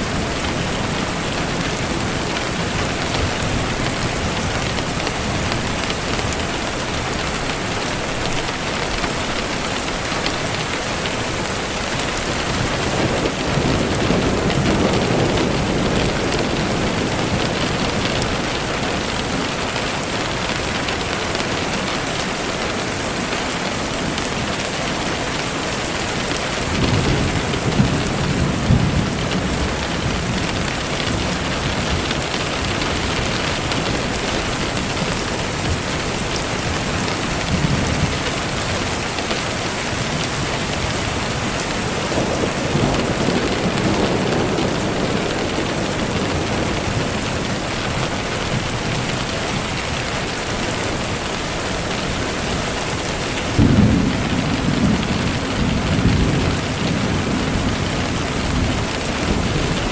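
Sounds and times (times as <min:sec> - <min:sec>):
steady rain: 0:00.0 - 0:59.9
thunder rumbling: 0:09.1 - 0:59.9.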